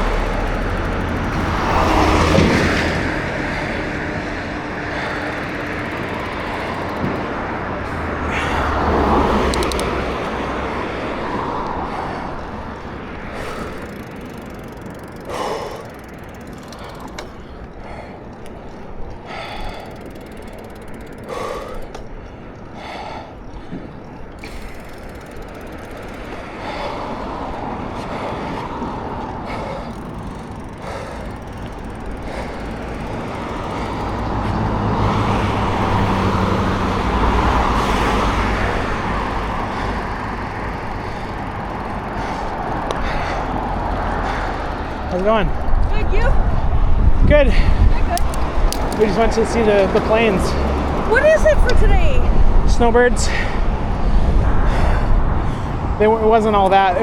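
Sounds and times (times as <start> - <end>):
bike freewheel clicking and rattling: 0.0 - 57.0
passing traffic: 0.0 - 57.0
wind rumble: 0.0 - 57.0.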